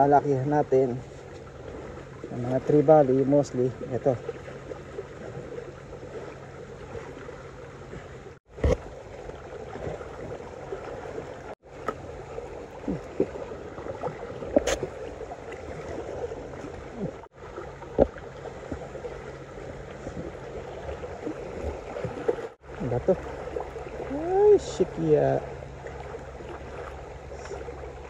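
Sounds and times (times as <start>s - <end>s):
small waves lapping on rocks: 0.0s - 28.0s.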